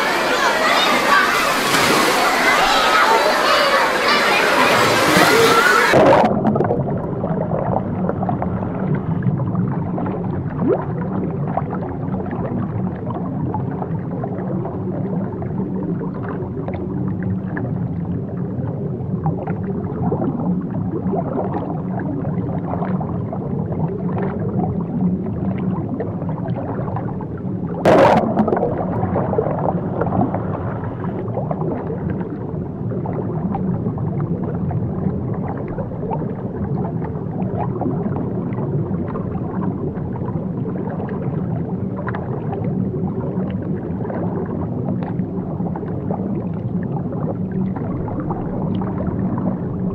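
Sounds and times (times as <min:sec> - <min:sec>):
underwater churning and bubbling: 0:00.0 - 0:49.9
low rumble: 0:06.0 - 0:49.9.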